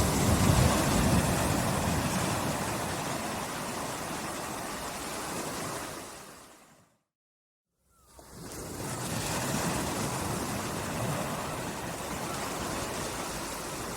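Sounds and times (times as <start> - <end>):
sea waves lapping on shore: 0.0 - 6.8, 8.1 - 13.9.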